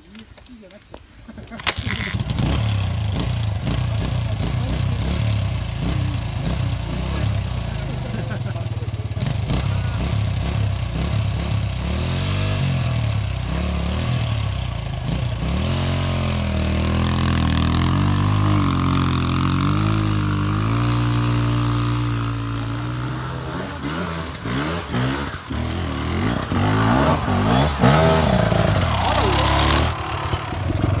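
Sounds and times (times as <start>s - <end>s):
dirt bike engine revving: 1.6s - 31.0s.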